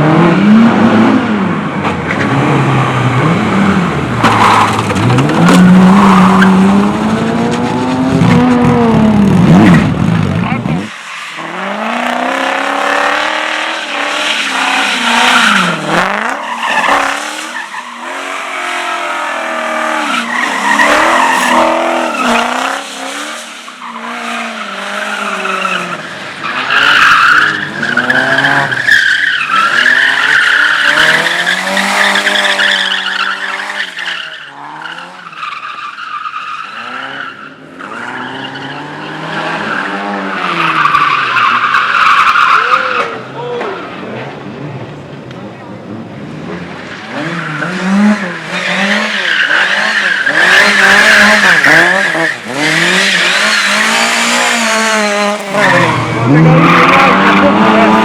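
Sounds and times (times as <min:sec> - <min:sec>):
race car engine revving: 0:00.0 - 0:58.0
tyres squealing and skidding: 0:02.2 - 0:44.2, 0:46.7 - 0:58.0.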